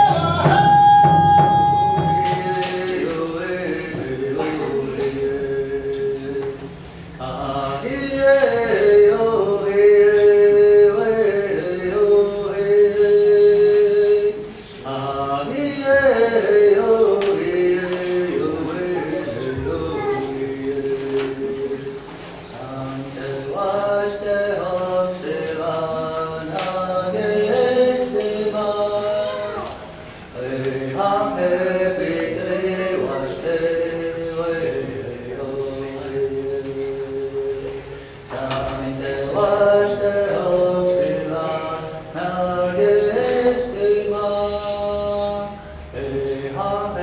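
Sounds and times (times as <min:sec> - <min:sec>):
men singing chant: 0:00.0 - 0:47.0.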